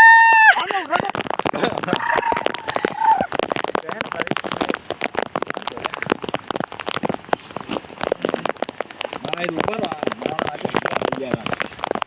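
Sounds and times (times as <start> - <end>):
heavy rain: 0.0 - 12.0
large raindrops tapping: 0.0 - 12.0.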